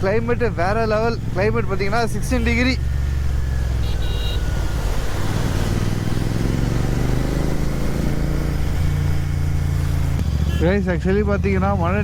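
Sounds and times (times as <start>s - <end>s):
motorcycle engine accelerating: 0.1s - 10.6s.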